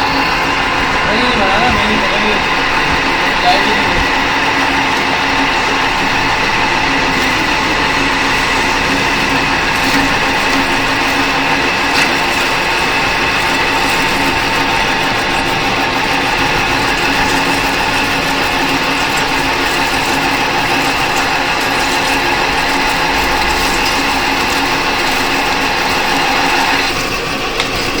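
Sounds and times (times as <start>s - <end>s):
metal lathe running: 0.0s - 28.0s.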